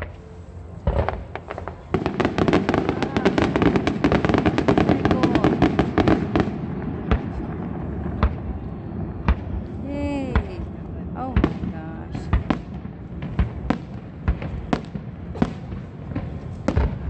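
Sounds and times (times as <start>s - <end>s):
fireworks bangs and crackles: 0.8s - 17.0s.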